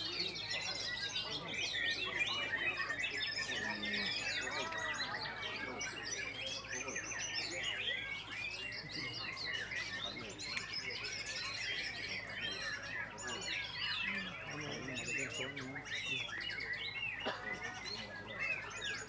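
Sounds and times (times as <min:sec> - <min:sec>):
songbirds whistling and chirping: 0:00.0 - 0:19.0.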